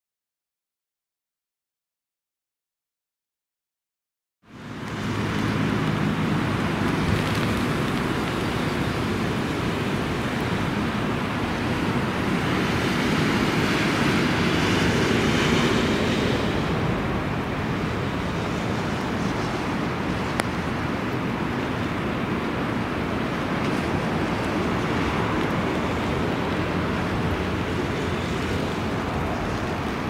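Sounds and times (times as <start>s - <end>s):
jet engines approaching: 4.5s - 30.0s
wind rushing over microphone: 4.5s - 30.0s.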